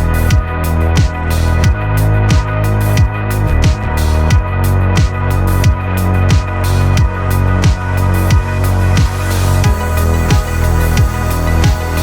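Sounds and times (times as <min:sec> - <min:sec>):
electronic music with deep bass: 0:00.0 - 0:12.0.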